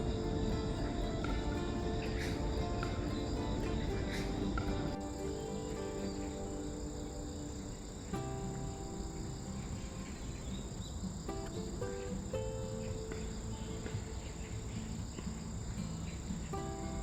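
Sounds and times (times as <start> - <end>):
grass insects chirping: 0.0 - 17.0.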